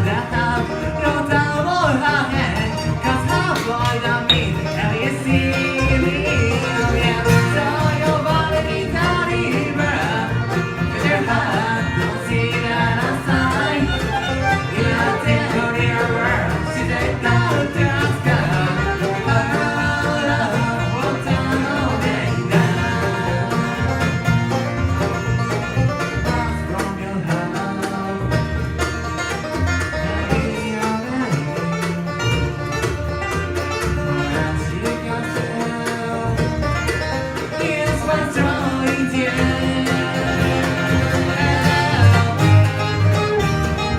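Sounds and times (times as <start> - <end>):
bluegrass band playing: 0.0 - 43.9.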